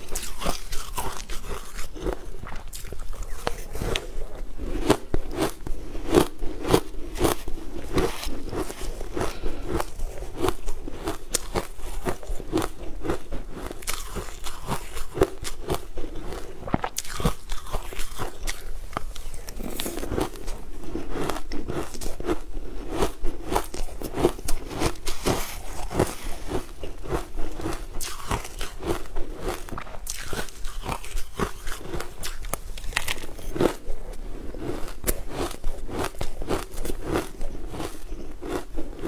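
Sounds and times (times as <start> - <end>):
person chewing ice: 0.0 - 39.0.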